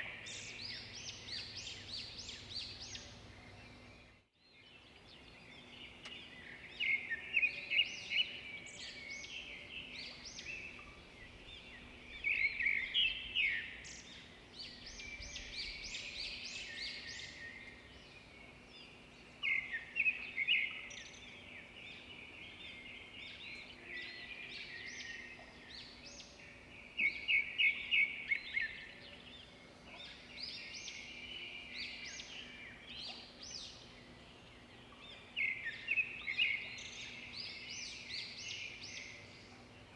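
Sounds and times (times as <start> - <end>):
faint steady hum: 0.0 - 39.9
songbirds chirping: 0.0 - 39.9.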